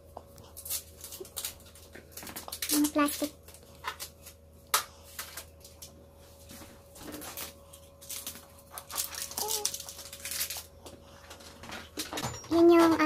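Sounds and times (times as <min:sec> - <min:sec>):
plastic film peeling and crinkling: 0:00.4 - 0:12.0.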